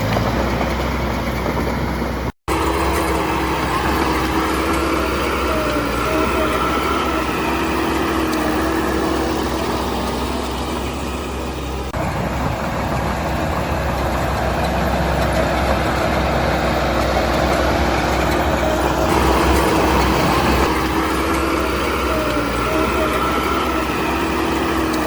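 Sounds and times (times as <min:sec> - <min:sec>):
diesel construction machine engine: 0:00.0 - 0:25.0.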